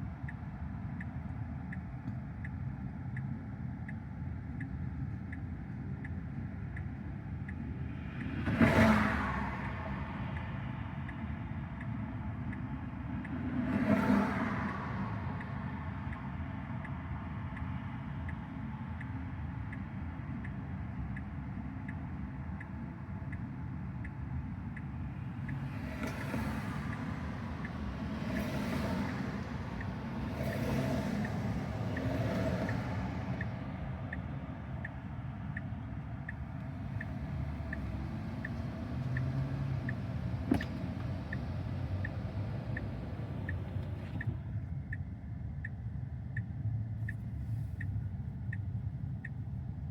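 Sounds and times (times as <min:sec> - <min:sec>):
road and tyre noise in car: 0:00.0 - 0:49.9
vehicles passing: 0:06.3 - 0:49.9.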